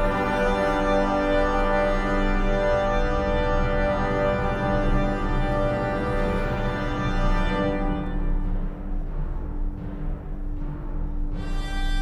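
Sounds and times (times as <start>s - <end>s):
sustained organ chords: 0.0s - 12.0s.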